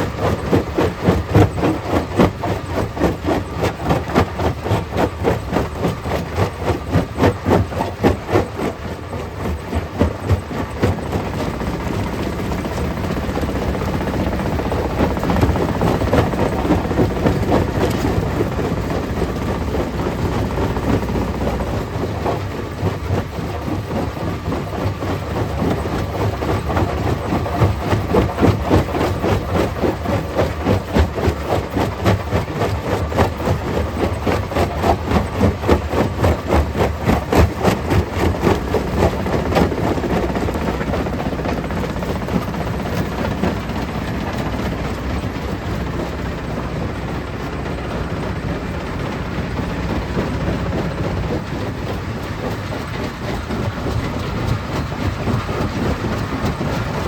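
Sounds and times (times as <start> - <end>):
grinding rumble: 0.0 - 57.0.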